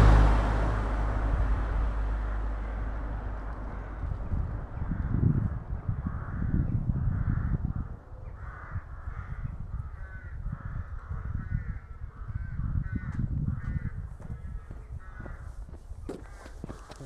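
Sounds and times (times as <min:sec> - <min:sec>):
low rumble: 0:00.0 - 0:16.1
crows cawing: 0:02.2 - 0:17.0.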